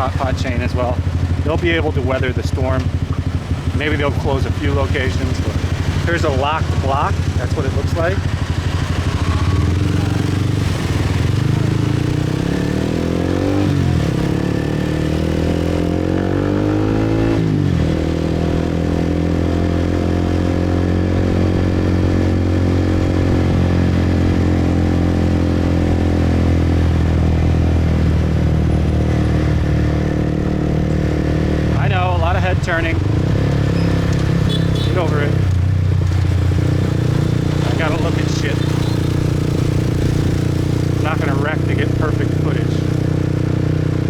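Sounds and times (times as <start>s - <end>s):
motorbike engine shifting gears: 0.0s - 44.0s.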